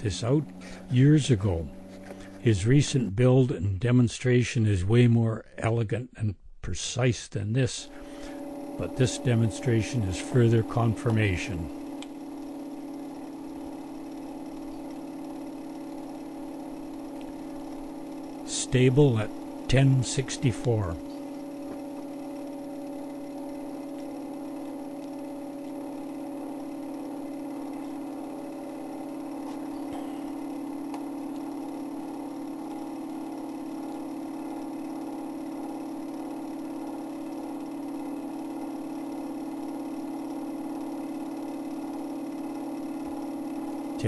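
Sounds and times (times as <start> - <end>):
spinning rotor hum: 0.0 - 3.5, 7.7 - 44.0.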